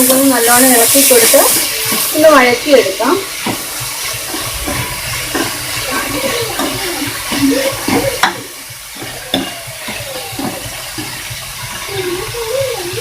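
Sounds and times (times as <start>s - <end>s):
vegetables sizzling in oil: 0.0s - 13.0s
spatula scraping and knocking pan: 0.6s - 13.0s.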